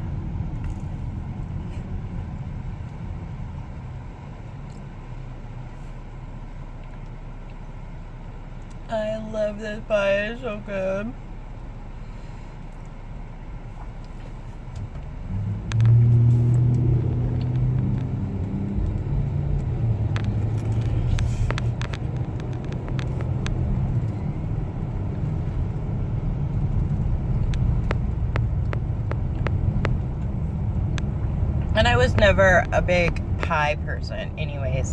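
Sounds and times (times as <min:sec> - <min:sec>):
car engine: 0:00.0 - 0:34.9
road noise inside car: 0:00.0 - 0:34.9.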